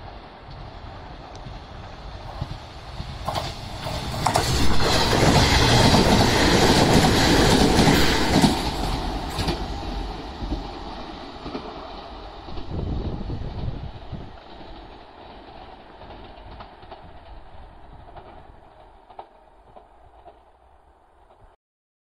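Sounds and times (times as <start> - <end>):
electric train passing: 0.0 - 21.6
wheel and track noise: 0.0 - 21.6.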